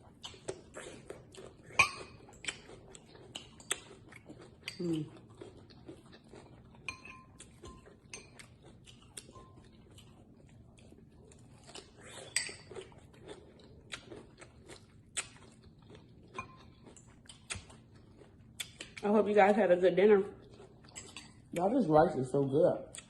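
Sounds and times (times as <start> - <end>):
crunchy chewing: 0.0 - 19.0.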